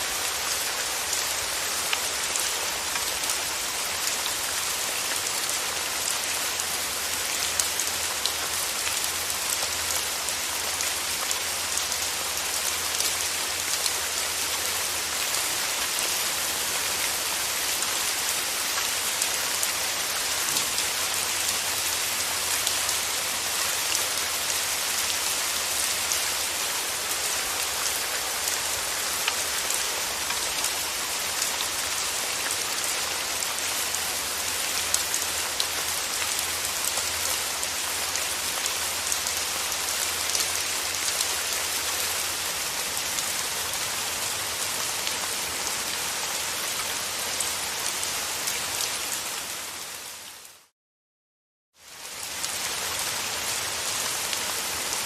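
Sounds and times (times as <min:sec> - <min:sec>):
rain falling: 0:00.0 - 0:50.7, 0:51.8 - 0:55.0.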